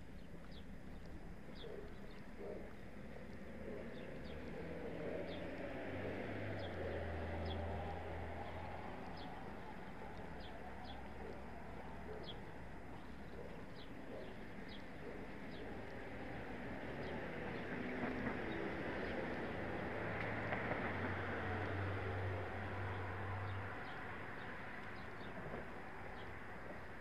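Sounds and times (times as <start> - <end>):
low vehicle rumble: 0.0 - 27.0
street traffic: 0.0 - 27.0.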